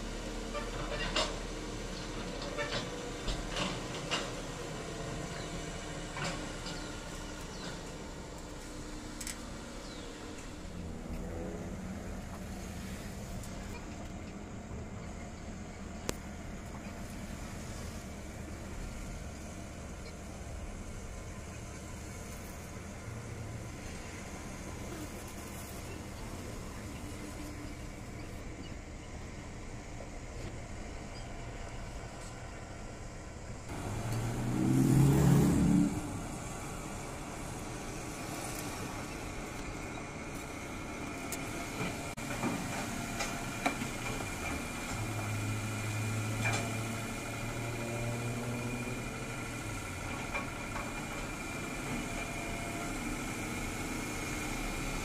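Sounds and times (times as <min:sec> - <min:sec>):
distant diesel engine running: 0:00.0 - 0:55.0.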